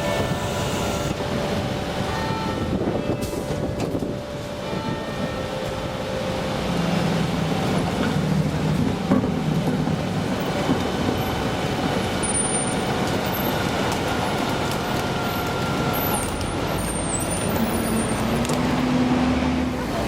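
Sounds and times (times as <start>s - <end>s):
garbage truck rumble: 0.0s - 20.0s.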